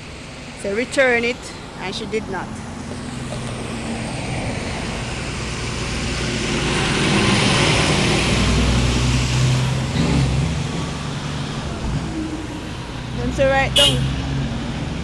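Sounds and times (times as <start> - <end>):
vehicle passing close: 2.6 - 15.0.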